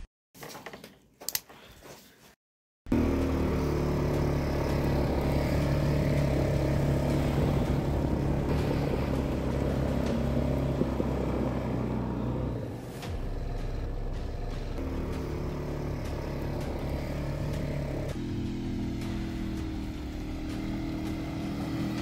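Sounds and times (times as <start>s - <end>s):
engine droning: 2.9s - 22.0s.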